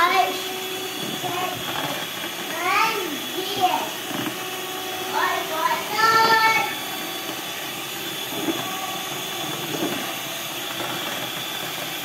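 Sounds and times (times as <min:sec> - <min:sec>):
electric hand mixer whine: 0:00.0 - 0:12.0.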